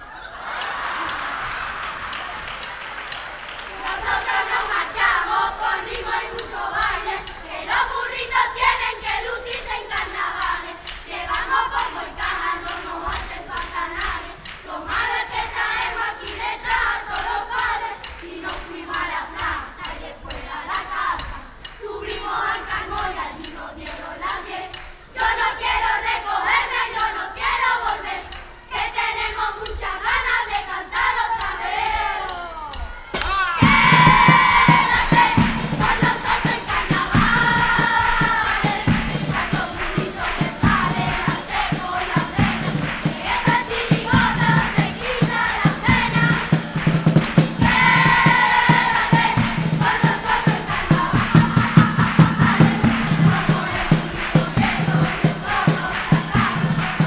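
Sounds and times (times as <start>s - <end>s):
drums beating: 0.0s - 57.0s
children singing in chorus: 3.6s - 57.0s.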